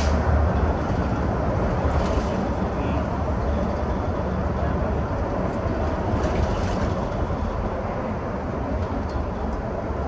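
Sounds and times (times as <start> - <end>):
moving vehicle rumbling: 0.0 - 10.0.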